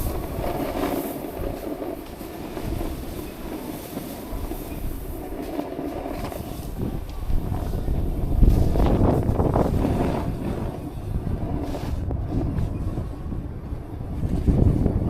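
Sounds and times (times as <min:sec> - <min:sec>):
snowboard scraping over snow: 0:00.0 - 0:15.0.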